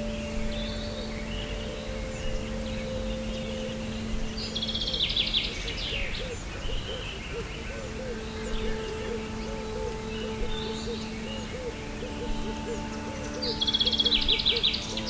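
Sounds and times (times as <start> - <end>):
birds calling: 0.0 - 15.0
forest noise: 0.0 - 15.0
low humming tones: 0.0 - 15.0.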